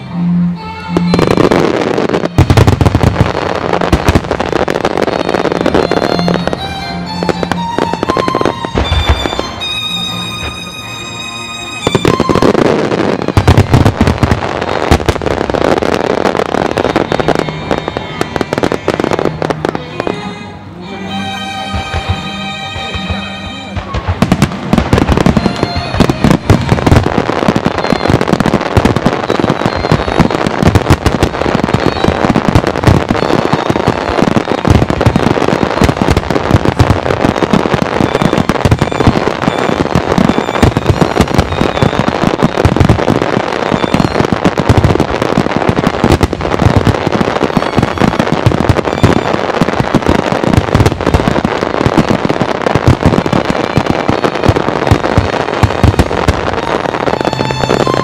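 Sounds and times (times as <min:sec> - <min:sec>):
firework shells bursting: 0:01.1 - 0:19.8, 0:21.7 - 0:58.0.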